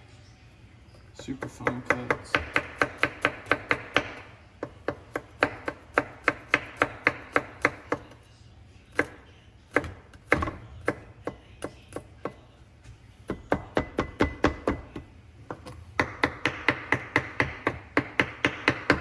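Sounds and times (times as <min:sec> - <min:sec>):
knife chopping on cutting board: 0:01.2 - 0:08.2, 0:08.9 - 0:12.4, 0:13.2 - 0:19.0.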